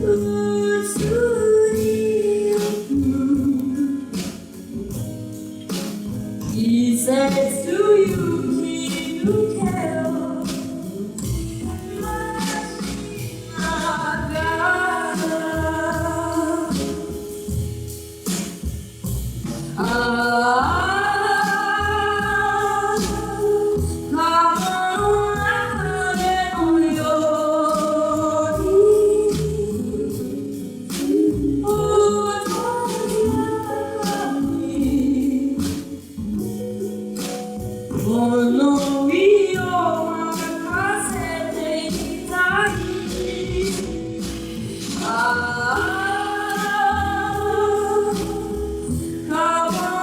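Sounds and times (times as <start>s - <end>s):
girl singing: 0.0s - 4.5s, 6.5s - 17.4s, 19.8s - 36.0s, 38.0s - 50.0s
band accompaniment: 0.0s - 50.0s
steady drum beat: 0.0s - 50.0s.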